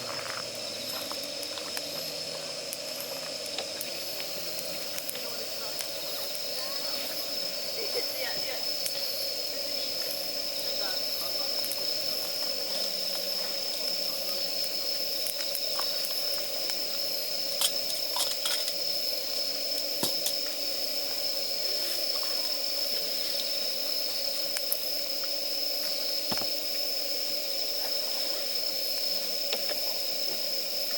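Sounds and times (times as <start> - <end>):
firewood crackling and popping: 0.0 - 27.6
hiss of escaping steam: 0.0 - 30.9.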